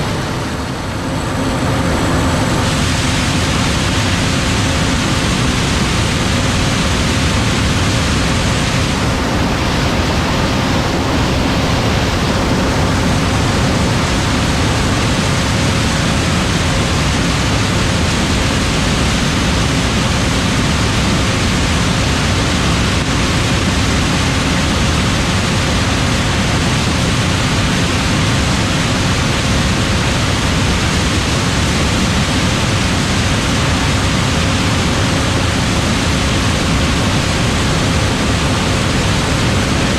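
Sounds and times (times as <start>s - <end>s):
combine harvester rushing noise: 0.0s - 39.9s
faint steady hum: 0.0s - 39.9s.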